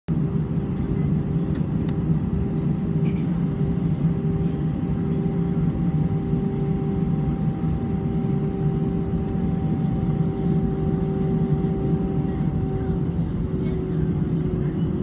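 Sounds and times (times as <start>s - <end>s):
jet engines running: 0.1s - 15.0s.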